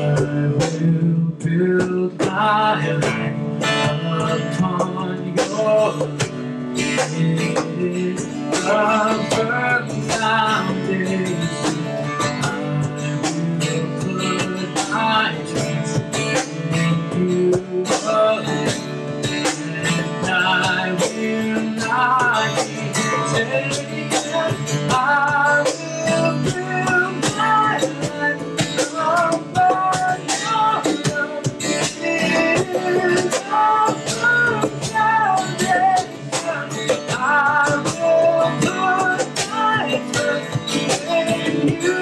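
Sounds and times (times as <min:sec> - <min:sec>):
cajon beat: 0:00.0 - 0:42.0
man singing: 0:00.0 - 0:42.0
strummed acoustic guitar: 0:00.0 - 0:42.0.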